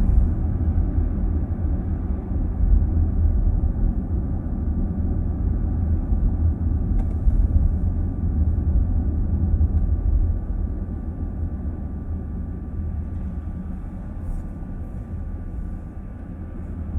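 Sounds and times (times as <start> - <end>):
road and tyre rumble in car: 0.0 - 16.9.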